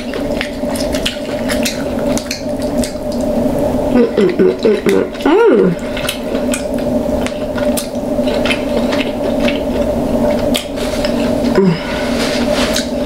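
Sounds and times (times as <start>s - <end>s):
wet squishing of meat: 0.0s - 3.9s, 4.6s - 11.5s.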